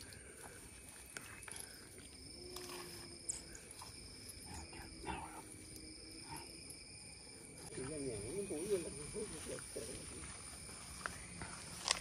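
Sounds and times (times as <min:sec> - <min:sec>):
insects buzzing and trilling: 0:00.0 - 0:12.0.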